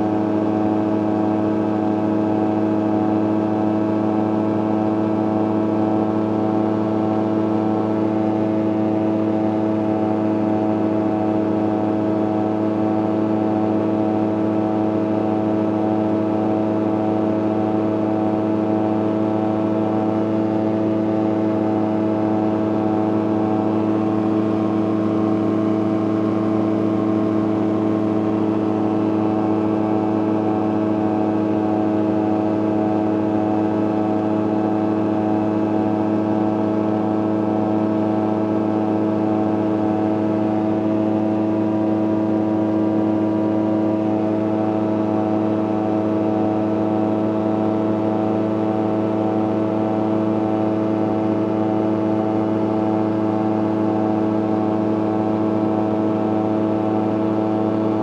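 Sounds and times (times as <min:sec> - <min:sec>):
ultralight engine and propeller drone: 0:00.0 - 0:58.0.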